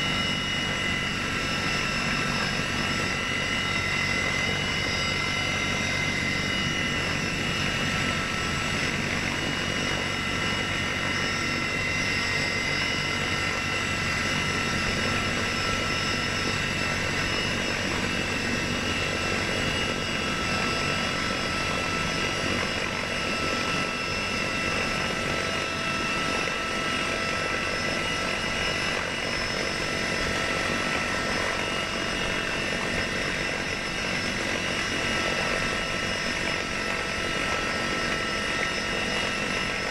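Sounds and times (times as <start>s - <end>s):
helicopter cabin drone: 0.0s - 39.9s.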